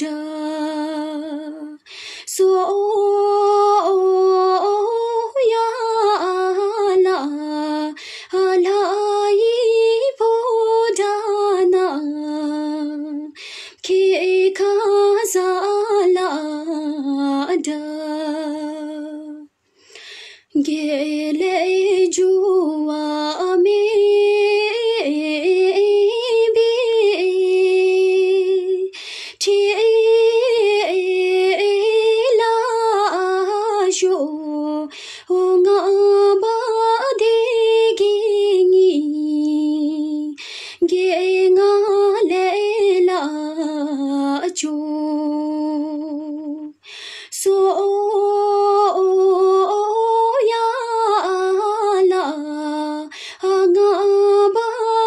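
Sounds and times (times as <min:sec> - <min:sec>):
woman singing unaccompanied: 0:00.0 - 0:19.5, 0:20.5 - 0:55.0.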